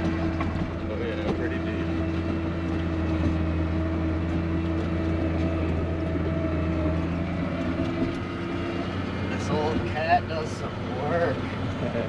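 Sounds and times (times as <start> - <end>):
snowcat engine running: 0.0 - 12.0.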